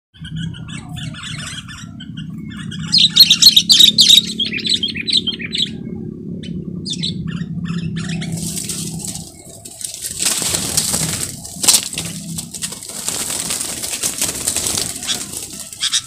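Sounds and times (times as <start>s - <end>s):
birds chattering calls: 0.2s - 16.0s
steady low hum: 0.2s - 16.0s.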